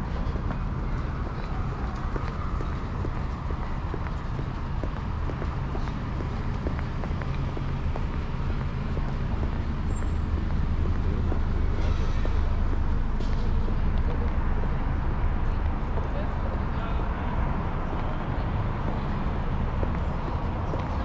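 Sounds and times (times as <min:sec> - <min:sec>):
passing cars rumbling: 0:00.0 - 0:21.0.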